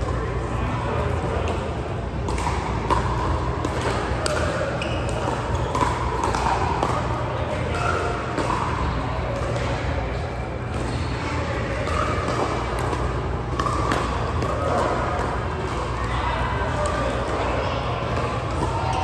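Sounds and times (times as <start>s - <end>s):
murmur of voices: 0.0s - 19.0s.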